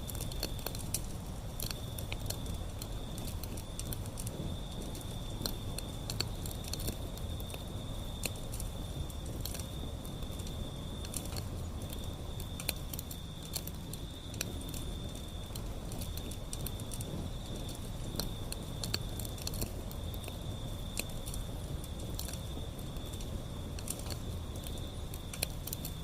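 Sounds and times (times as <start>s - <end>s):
high-pitched hiss from fire: 0.0s - 26.0s
low rumble of flames: 0.0s - 26.0s
wood fire crackling and popping: 0.0s - 26.0s.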